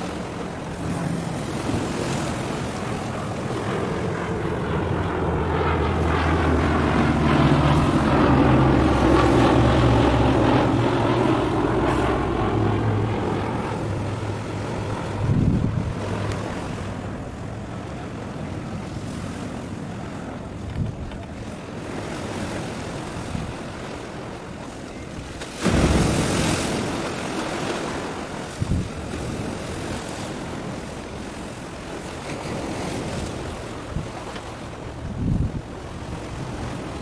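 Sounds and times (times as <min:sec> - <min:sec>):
sea noise: 0:00.0 - 0:37.0
wind buffeting microphone: 0:00.0 - 0:37.0.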